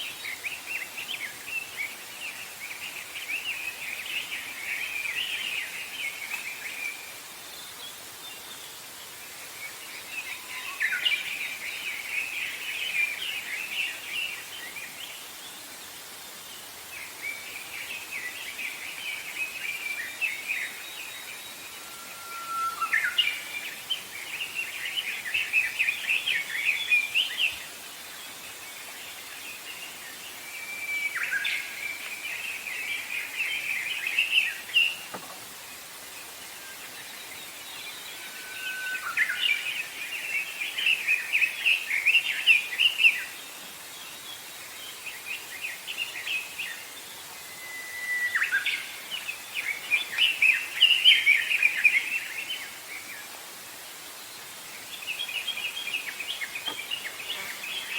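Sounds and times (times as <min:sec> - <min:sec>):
faint outdoor hiss: 0:00.0 - 0:57.9
songbird singing: 0:00.0 - 0:57.9.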